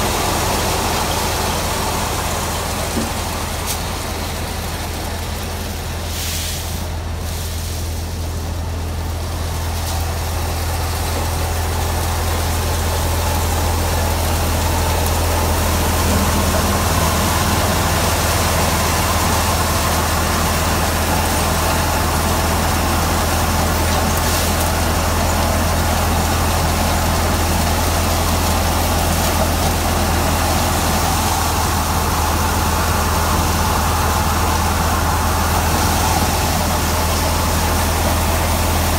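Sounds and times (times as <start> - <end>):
thresher drum and blower whirring: 0.0 - 6.1, 8.6 - 38.9
diesel tractor engine running: 0.0 - 38.9.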